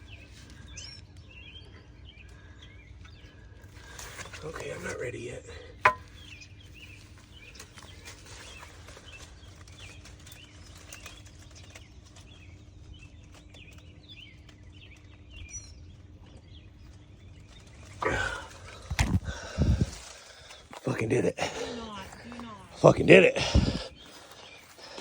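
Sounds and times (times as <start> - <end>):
low outdoor rumble: 0.0 - 25.0
small birds chirping: 0.0 - 25.0.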